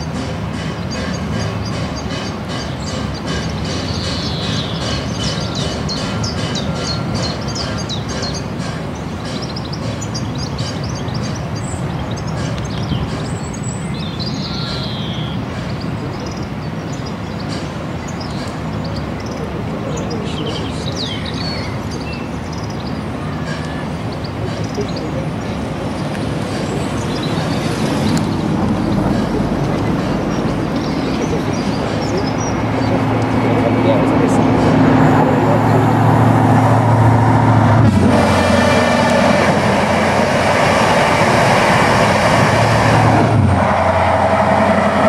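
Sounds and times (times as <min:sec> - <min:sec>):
songbirds chirping: 0:00.0 - 0:37.9
steam locomotive rumble: 0:00.0 - 0:45.0.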